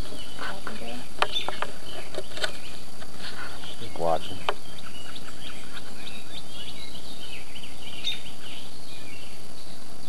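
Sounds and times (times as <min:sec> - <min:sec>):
small birds chirping: 0:00.0 - 0:10.0
steady outdoor noise: 0:00.0 - 0:10.0.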